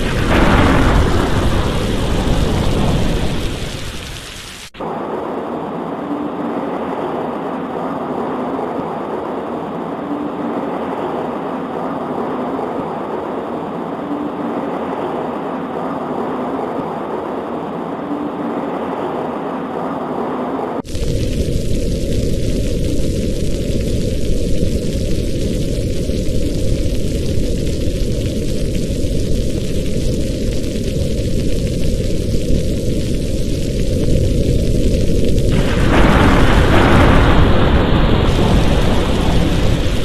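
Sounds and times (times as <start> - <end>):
heavy rain: 0.0 - 40.0
thunder rumble: 0.0 - 40.0.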